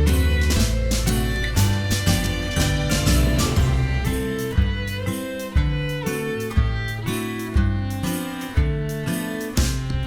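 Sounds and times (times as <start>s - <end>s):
background music with strings and guitar: 0.0s - 10.0s
steady beat: 0.2s - 10.0s.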